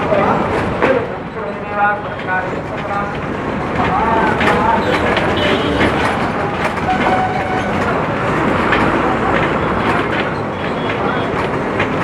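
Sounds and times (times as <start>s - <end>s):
bus engine and road rumble: 0.0s - 12.0s
bus fittings rattling: 0.0s - 12.0s.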